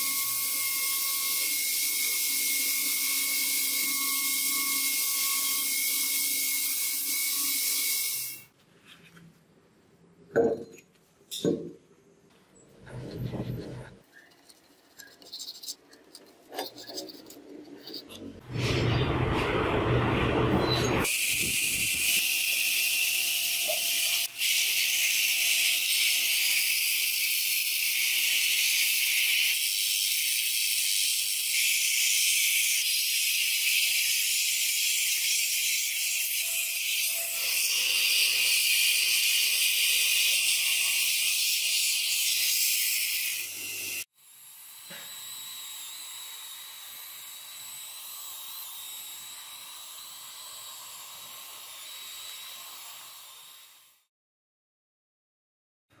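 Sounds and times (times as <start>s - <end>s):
belt grinder grinding steel: 0.0s - 8.5s, 14.3s - 18.4s, 21.0s - 54.0s.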